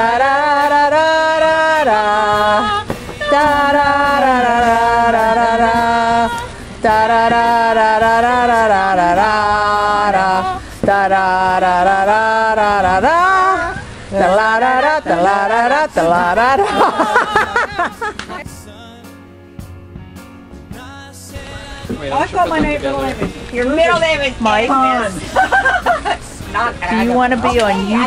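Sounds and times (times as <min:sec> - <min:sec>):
voices singing slow song: 0:00.0 - 0:19.7, 0:20.4 - 0:28.0.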